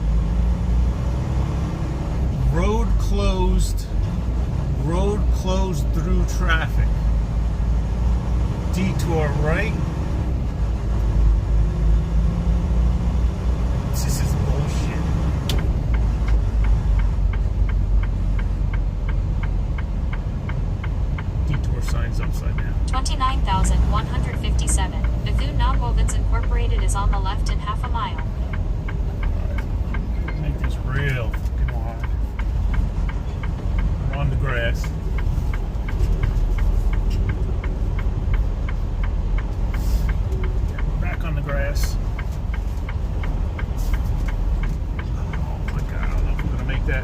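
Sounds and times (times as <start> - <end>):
diesel engine running low: 0.0 - 47.0
turn signal ticking: 0.0 - 47.0.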